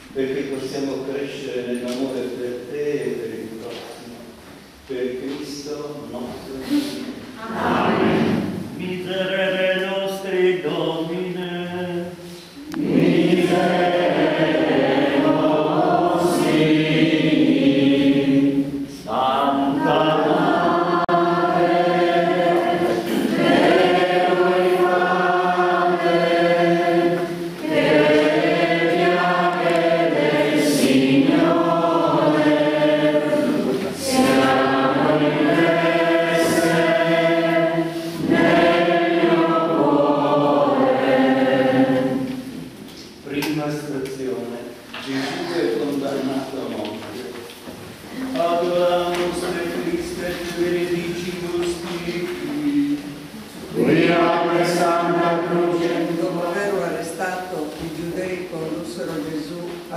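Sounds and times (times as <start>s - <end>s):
group singing a hymn: 6.1s - 44.3s, 47.9s - 59.9s.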